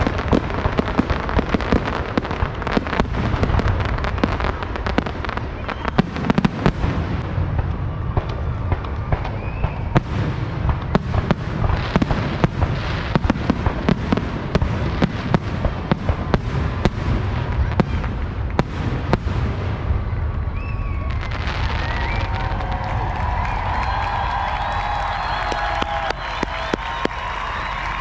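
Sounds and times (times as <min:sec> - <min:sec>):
fireworks cracking and popping: 0:00.0 - 0:28.0.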